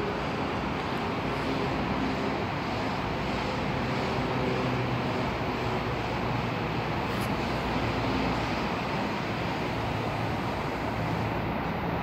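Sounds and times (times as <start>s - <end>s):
distant train rumble: 0.0s - 12.0s
road traffic: 0.0s - 12.0s.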